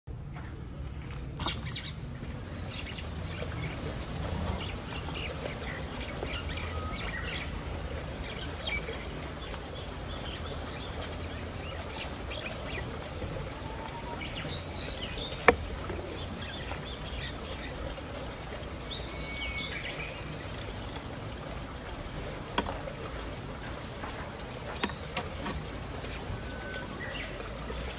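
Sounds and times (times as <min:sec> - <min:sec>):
low outdoor rumble: 0:00.1 - 0:27.9
small birds chirping: 0:00.3 - 0:27.9.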